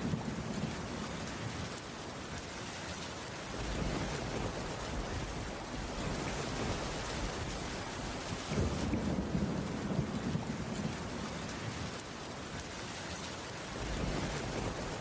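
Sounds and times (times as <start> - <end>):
rain on a wooden roof: 0.0 - 15.0.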